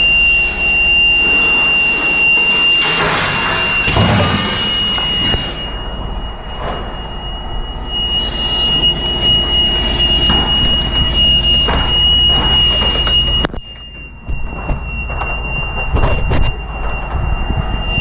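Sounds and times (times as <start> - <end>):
high-pitched whistle: 0.0 - 18.0.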